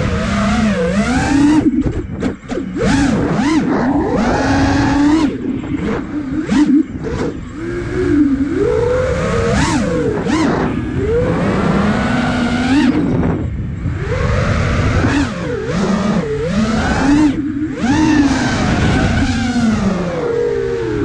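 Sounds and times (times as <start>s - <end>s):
drone motors whining: 0.0s - 21.0s
wind rush: 0.0s - 21.0s.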